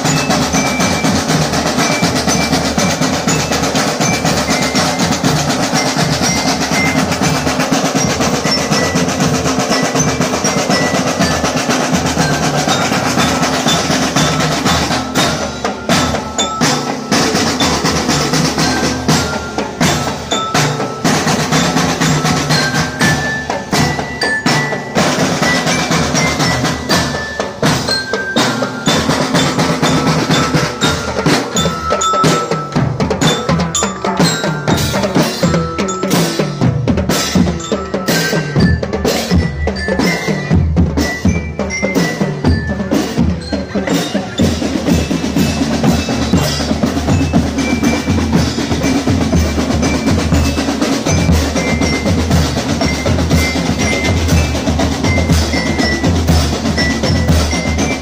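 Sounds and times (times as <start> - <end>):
high bell-like melody: 0.0 - 58.0
snare and bass drums beating: 0.0 - 58.0.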